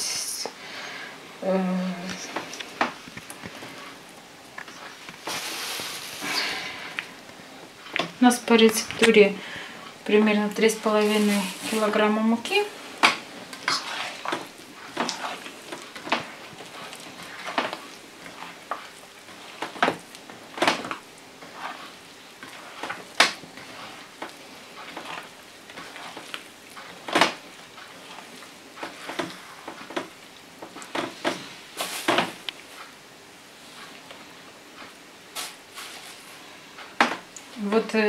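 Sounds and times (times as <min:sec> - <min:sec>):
hand mixing dough in bowl: 0:01.5 - 0:38.0.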